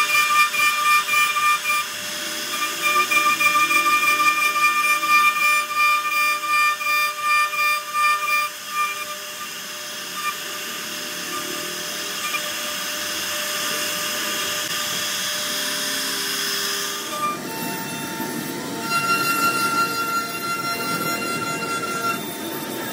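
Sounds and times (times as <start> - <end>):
router spindle whine: 0.0 - 22.9
wood cutting hiss: 0.0 - 22.9.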